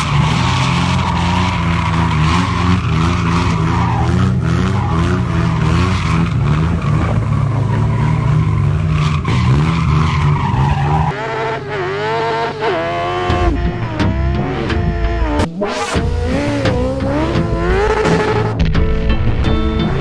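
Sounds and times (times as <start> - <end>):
engine revving through gears: 0.0 - 20.0
racing engines at high revs: 0.0 - 20.0.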